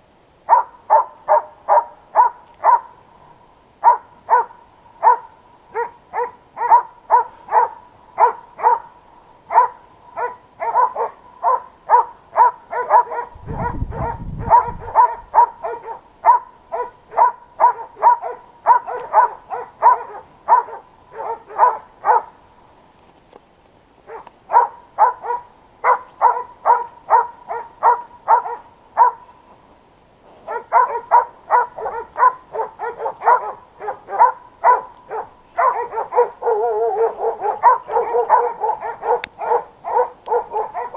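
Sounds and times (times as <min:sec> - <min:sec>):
dog barking rapidly: 0:00.5 - 0:02.9, 0:03.8 - 0:08.9, 0:09.5 - 0:22.3, 0:24.1 - 0:29.2, 0:30.5 - 0:40.9.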